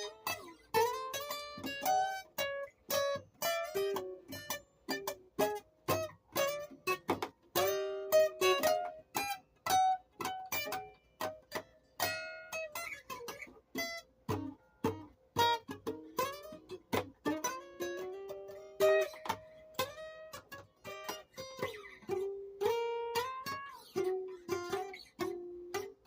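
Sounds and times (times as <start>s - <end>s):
plucked guitar melody: 0.0s - 26.0s
strummed guitar chords: 0.0s - 26.0s.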